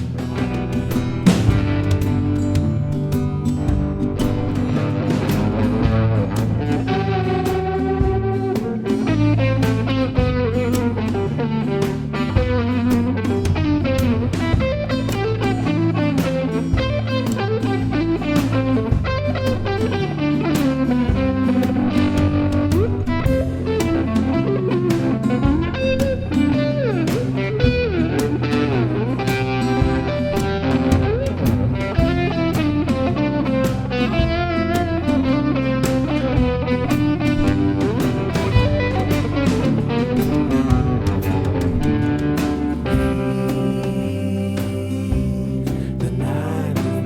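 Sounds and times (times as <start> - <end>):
bass guitar: 0.0 - 47.0
drums: 0.0 - 47.0
electric guitars: 0.0 - 47.0.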